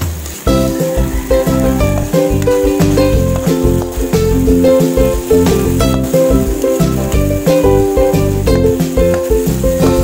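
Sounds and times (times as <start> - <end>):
melody over steady beat: 0.4 - 10.0.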